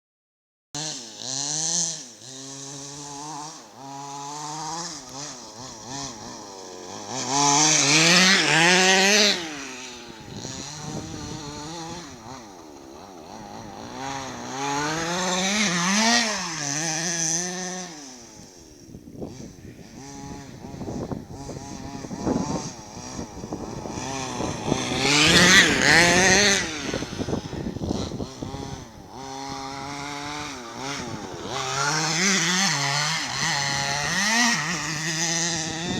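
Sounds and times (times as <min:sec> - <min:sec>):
rc car engine revving: 0:00.8 - 0:35.9.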